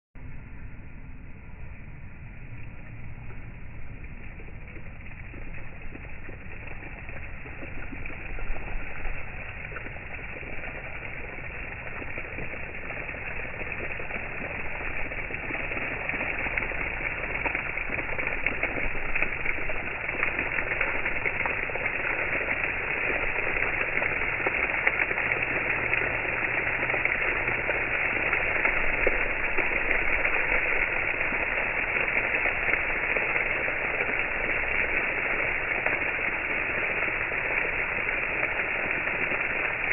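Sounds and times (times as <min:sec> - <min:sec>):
water fountain splashing: 0:00.2 - 0:39.9.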